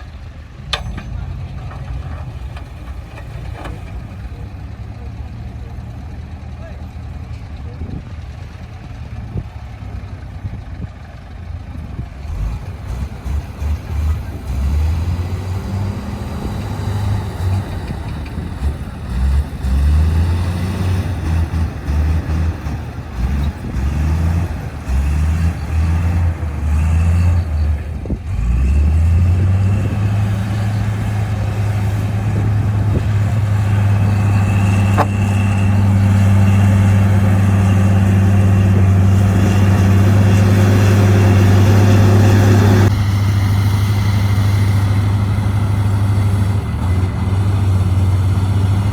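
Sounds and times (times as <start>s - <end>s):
diesel truck engine running: 0.0s - 48.9s.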